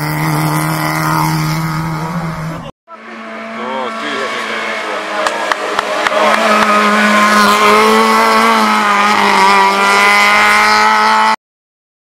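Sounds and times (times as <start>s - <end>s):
race car engine revving: 0.0s - 11.4s.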